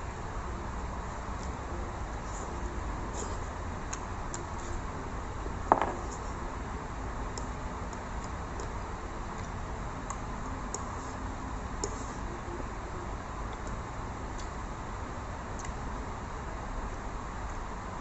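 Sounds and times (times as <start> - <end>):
steady room hum: 0.0 - 18.0.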